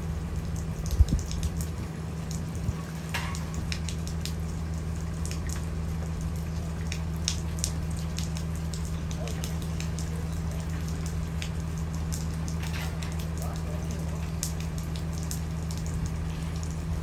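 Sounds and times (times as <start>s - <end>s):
light rain: 0.0s - 17.0s
raindrops ticking and dripping: 0.0s - 17.0s.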